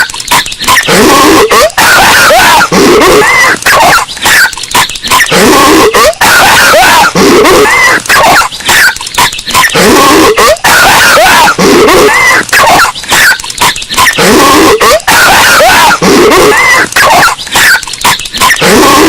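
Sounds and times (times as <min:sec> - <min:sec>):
distorted cartoon voice coughing: 0:00.1 - 0:19.0.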